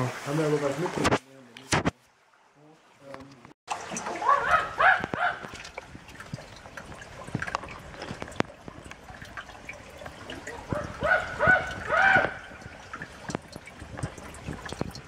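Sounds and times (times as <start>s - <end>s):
sharp water drips: 0.0s - 15.0s
water trickling into pool: 0.0s - 15.0s.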